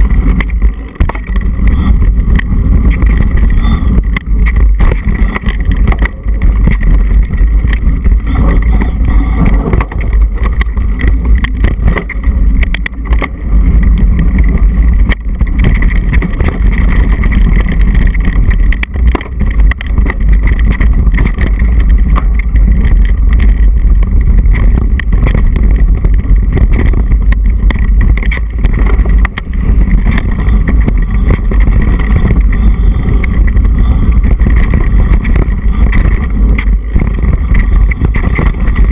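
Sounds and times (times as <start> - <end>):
bike knocks and rattles: 0.0 - 38.9
wind buffeting microphone: 0.0 - 38.9.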